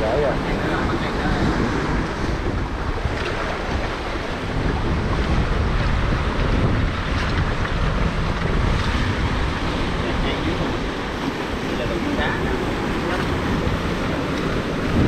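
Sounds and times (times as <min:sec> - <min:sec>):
seawater sloshing among boulders: 0:00.0 - 0:15.0
wind buffeting microphone: 0:00.0 - 0:15.0.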